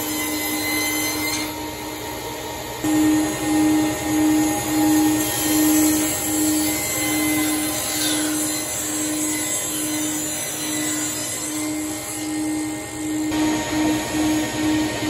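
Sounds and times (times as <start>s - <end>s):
table saw cutting board: 0.0s - 15.0s.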